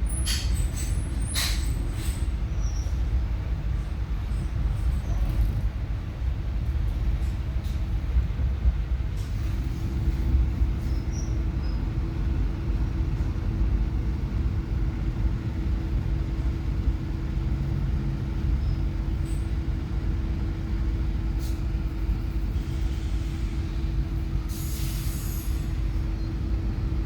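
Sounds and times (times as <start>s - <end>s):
train carriage rumble: 0.0s - 27.0s.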